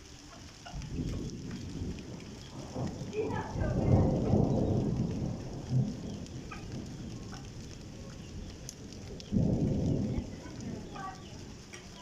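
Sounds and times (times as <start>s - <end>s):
heavy rain falling: 0.0s - 12.0s
rolling thunder: 0.7s - 12.0s.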